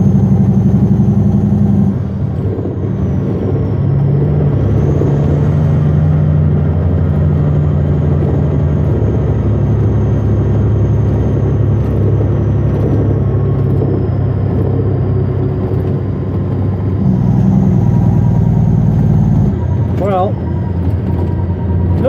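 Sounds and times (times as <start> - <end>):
truck diesel engine droning: 0.0 - 22.0.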